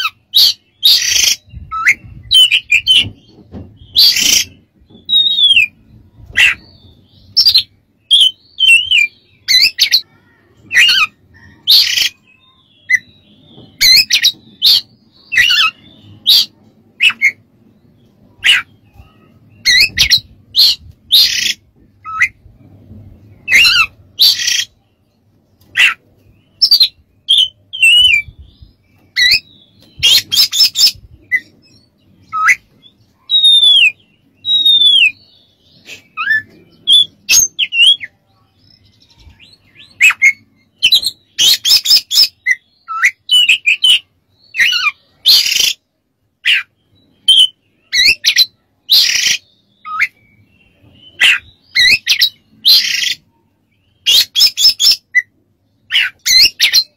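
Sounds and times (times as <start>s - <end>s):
bird singing: 0.0s - 56.9s.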